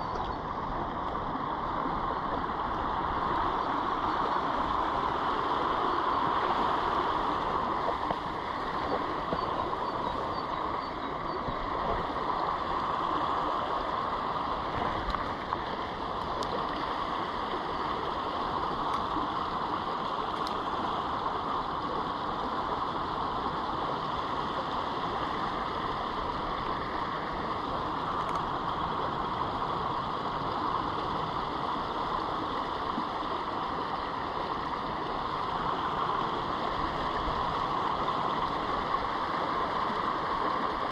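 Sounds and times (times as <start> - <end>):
stream flowing over riffles: 0.0 - 40.9.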